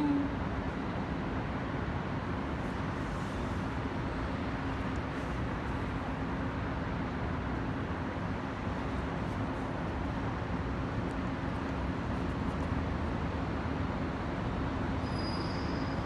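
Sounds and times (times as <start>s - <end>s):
street background rumble and hum: 0.0s - 16.0s.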